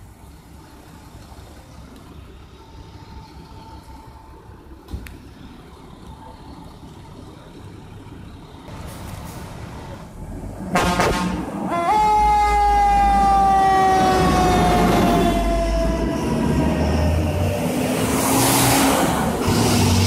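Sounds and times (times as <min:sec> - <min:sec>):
truck engines rumbling: 0:00.0 - 0:20.0.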